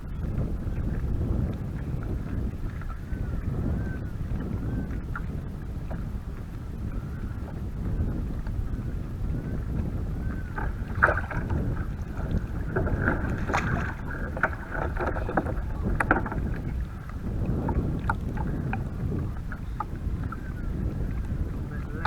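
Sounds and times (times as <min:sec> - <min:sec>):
water splashing around a boat: 0:00.0 - 0:22.0
wind rumble on microphone: 0:00.0 - 0:22.0.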